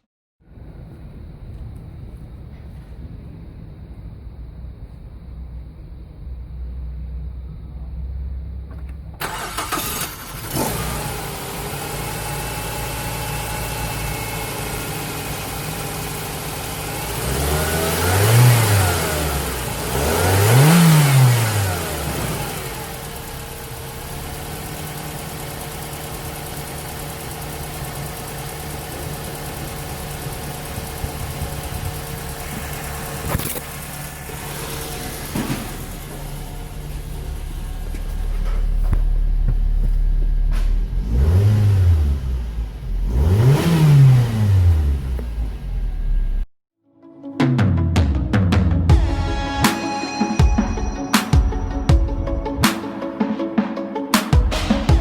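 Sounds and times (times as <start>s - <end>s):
car engine idling and revving: 0.0s - 46.5s.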